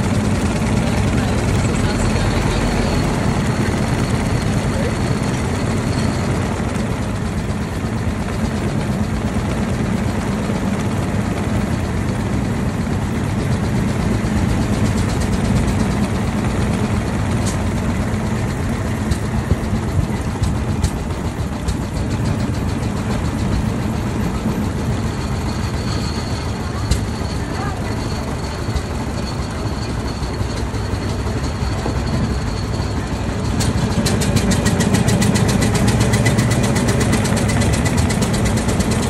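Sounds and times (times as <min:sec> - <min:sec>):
sharp clicks and rattles: 0:00.0 - 0:39.0
single-cylinder car engine running: 0:00.0 - 0:39.0.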